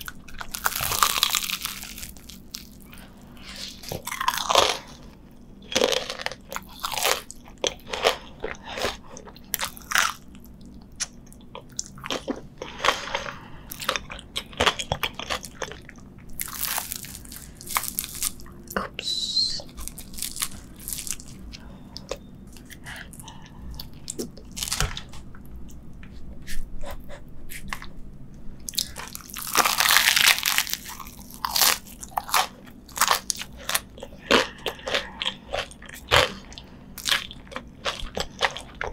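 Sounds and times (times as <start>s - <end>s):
crunchy biting and chewing: 0.0s - 18.5s, 19.7s - 25.1s, 28.7s - 38.9s.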